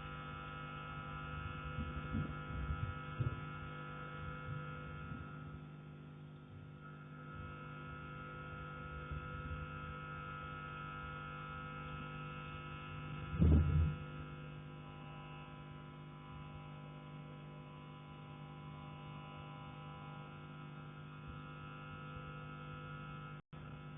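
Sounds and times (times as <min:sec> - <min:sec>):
steady electrical hum: 0:00.0 - 0:23.9.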